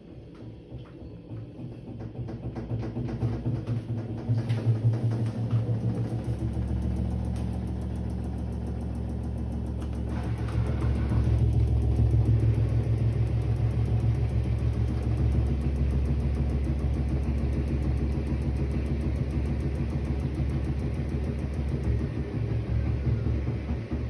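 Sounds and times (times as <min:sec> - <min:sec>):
fast continuous knocking: 0:00.0 - 0:24.0
washing machine drum spinning: 0:00.0 - 0:24.0.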